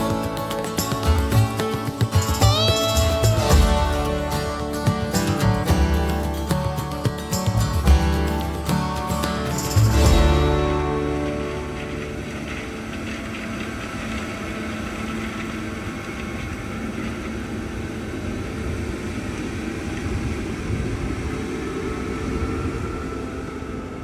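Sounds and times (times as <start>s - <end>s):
heavy machinery engine rumble: 0.0s - 24.0s.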